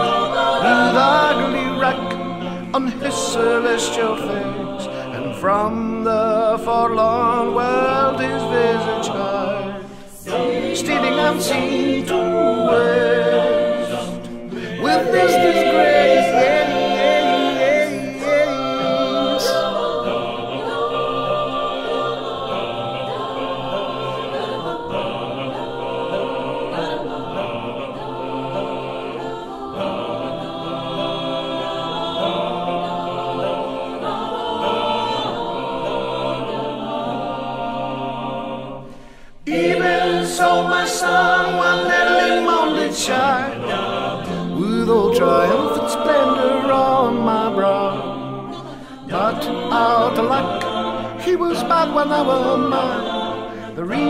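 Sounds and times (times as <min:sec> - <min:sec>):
mixed choir singing a cappella: 0:00.0 - 0:54.0.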